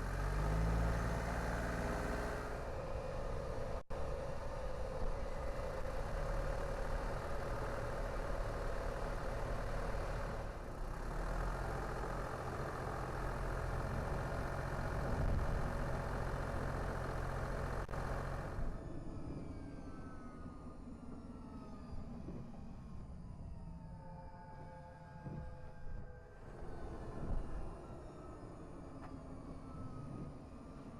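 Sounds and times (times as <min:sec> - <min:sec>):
low engine hum: 0:00.0 - 0:30.9.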